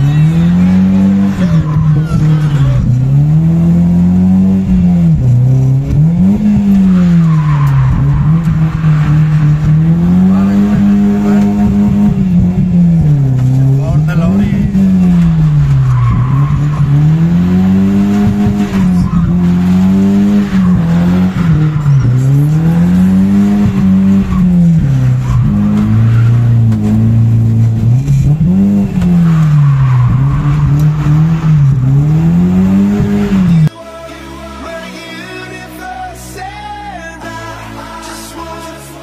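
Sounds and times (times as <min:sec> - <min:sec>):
tyres squealing: 0:00.0 - 0:04.0, 0:06.0 - 0:33.7
car engine revving: 0:00.0 - 0:39.0.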